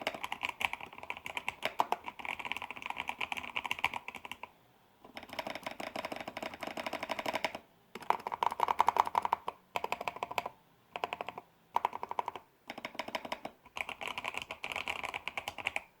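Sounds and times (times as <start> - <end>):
fast typing on mechanical keyboard: 0.0 - 4.5, 5.1 - 15.9.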